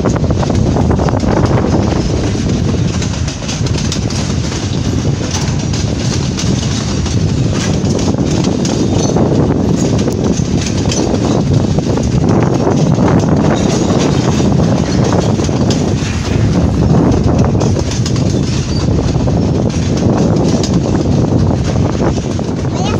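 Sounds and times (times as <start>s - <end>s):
freight train wheels rumbling: 0.0s - 22.9s
train wagons clicking and clanking: 0.0s - 22.9s.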